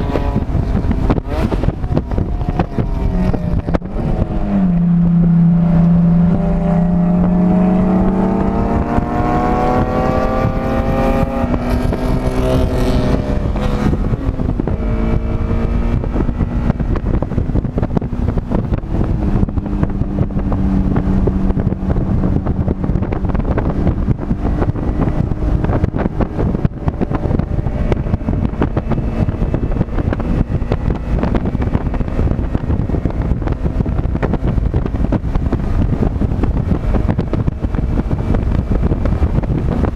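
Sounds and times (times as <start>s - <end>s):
race car engine revving: 0.0s - 39.9s
wind buffeting: 0.0s - 39.9s.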